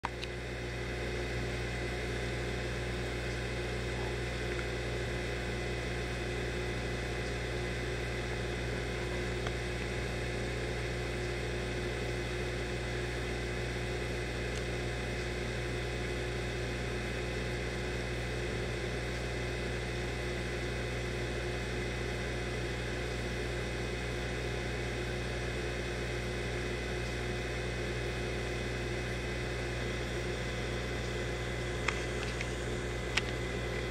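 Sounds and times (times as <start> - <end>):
aquarium pumps humming: 0.0 - 33.9.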